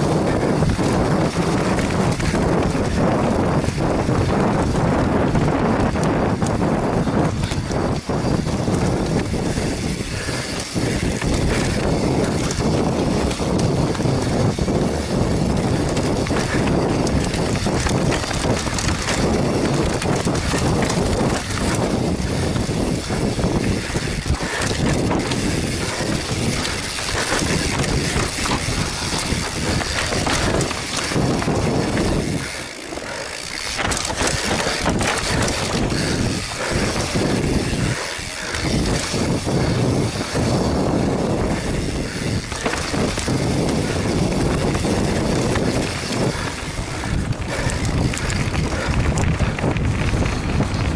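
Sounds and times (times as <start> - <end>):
bike rattling and knocking: 0.0 - 50.9
wind and tyre noise: 0.0 - 50.9.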